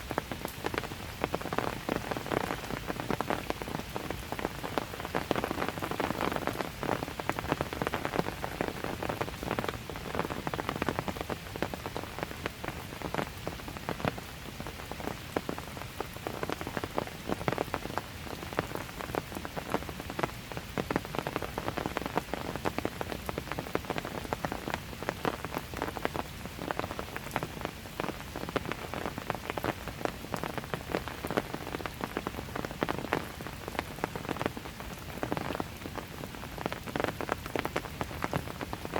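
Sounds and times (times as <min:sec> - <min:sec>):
raindrops pattering on hard surfaces: 0:00.0 - 0:38.9.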